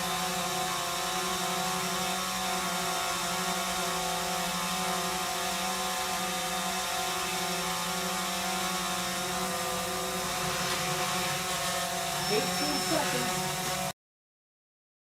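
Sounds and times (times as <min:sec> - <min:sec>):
sump pump motor humming: 0:00.0 - 0:13.9.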